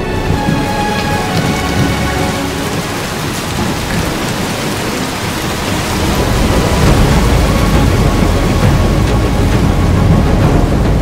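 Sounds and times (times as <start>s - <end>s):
heavy rain pouring: 0.0s - 11.0s
thunder rumbling: 0.0s - 11.0s.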